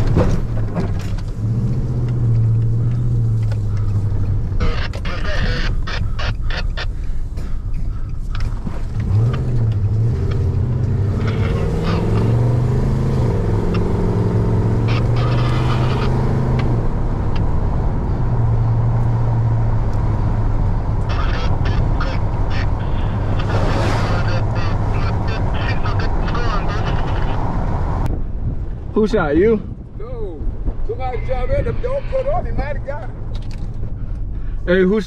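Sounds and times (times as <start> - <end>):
truck engine from inside cab: 0.0 - 28.1
road noise: 0.0 - 35.0.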